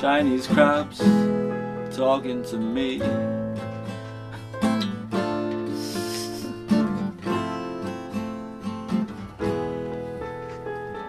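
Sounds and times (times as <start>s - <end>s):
acoustic guitar strumming: 0.0s - 11.0s
digital piano playing: 0.0s - 11.0s.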